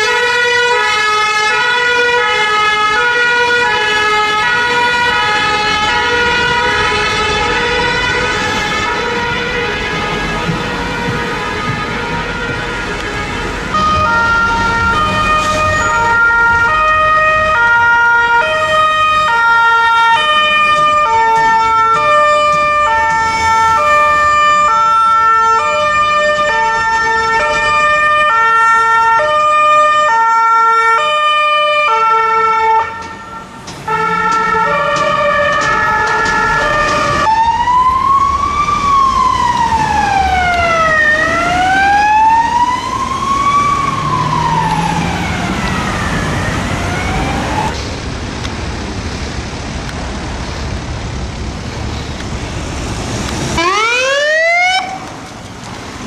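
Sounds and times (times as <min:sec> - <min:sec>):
police siren wailing: 0:00.0 - 0:47.8, 0:52.7 - 0:56.0
two-tone hi-lo siren: 0:00.0 - 0:47.8, 0:53.5 - 0:55.2.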